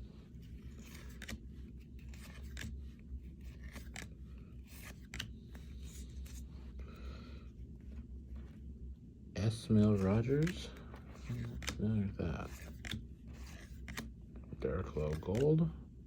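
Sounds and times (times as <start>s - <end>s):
steady low hum: 0.0s - 16.0s
cards sliding against each other: 0.1s - 8.6s, 9.8s - 14.1s, 14.8s - 15.5s.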